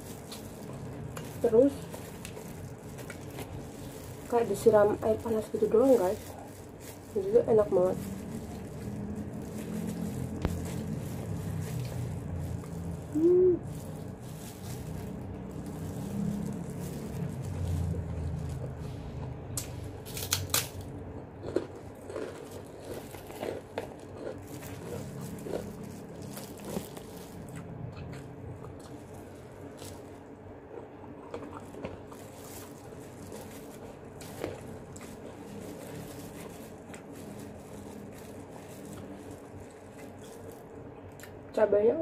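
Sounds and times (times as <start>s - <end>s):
person chewing food: 0.0s - 4.3s, 7.8s - 41.4s.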